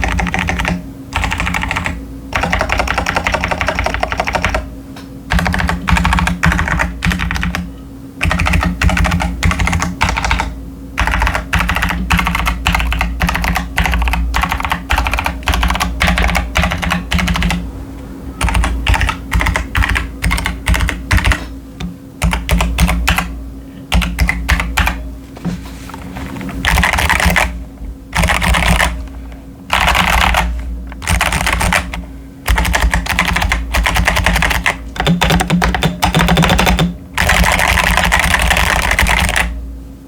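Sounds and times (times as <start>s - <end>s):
typing on mechanical keyboard: 0.0s - 4.7s, 5.3s - 17.6s, 18.4s - 21.5s, 22.2s - 23.3s, 23.9s - 25.0s, 26.6s - 27.6s, 28.2s - 29.0s, 29.7s - 39.5s.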